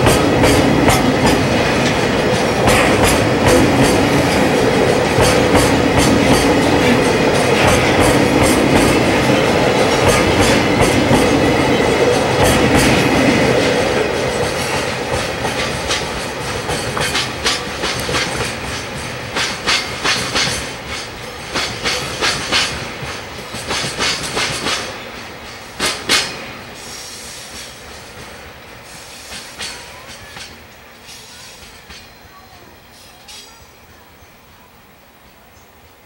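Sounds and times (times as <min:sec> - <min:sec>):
train wheels click-clacking: 0:00.0 - 0:33.6.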